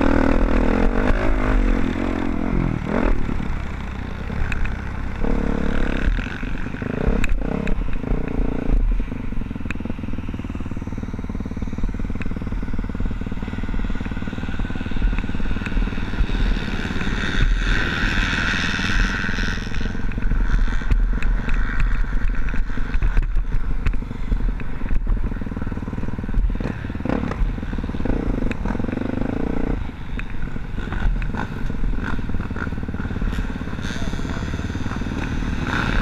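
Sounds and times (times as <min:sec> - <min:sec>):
dirt bike engines racing: 0:00.0 - 0:36.0.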